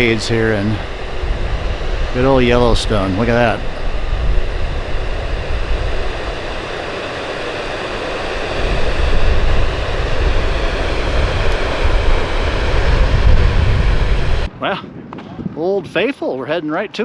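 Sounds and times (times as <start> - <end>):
waterfall rushing: 0.0 - 14.5
wind buffeting microphone: 0.0 - 16.4.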